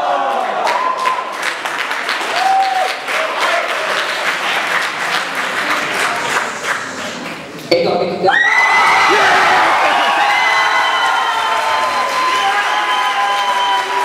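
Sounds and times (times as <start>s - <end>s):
audience applauding: 0.0s - 7.5s, 8.7s - 14.0s.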